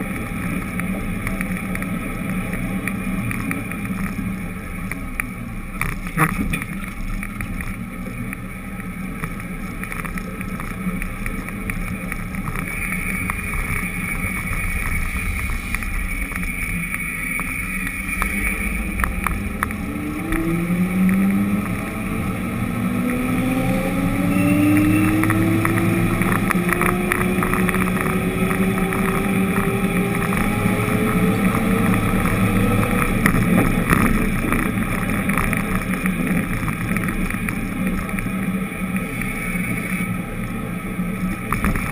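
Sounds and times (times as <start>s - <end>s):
road and wind rumble: 0.0s - 41.9s
vehicle engine accelerating: 0.0s - 41.9s.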